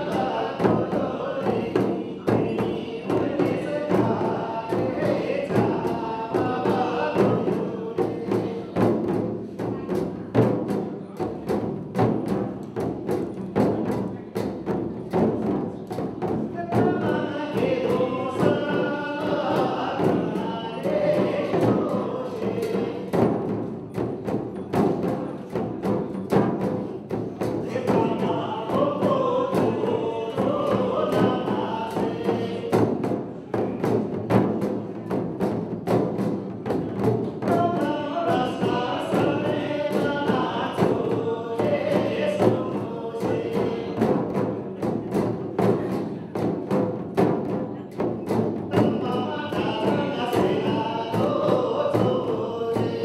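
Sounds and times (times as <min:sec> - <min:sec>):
group chanting: 0:00.0 - 0:47.4, 0:48.3 - 0:53.0
frame drums beating rapidly: 0:00.0 - 0:53.0.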